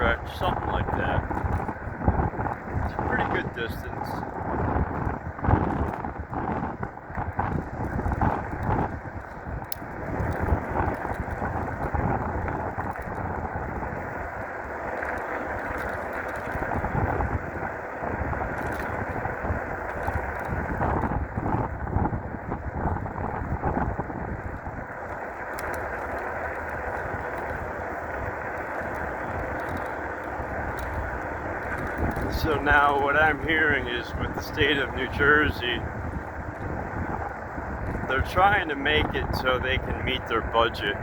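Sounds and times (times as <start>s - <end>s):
tyre and road noise: 0.0s - 41.0s
wind buffeting microphone: 0.0s - 41.0s.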